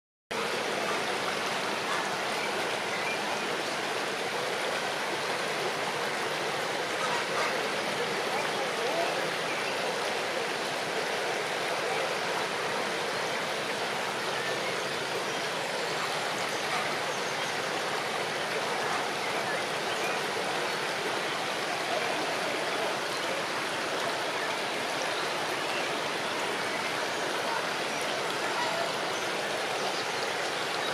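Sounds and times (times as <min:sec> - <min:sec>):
river rushing over rocks: 0:00.4 - 0:30.9.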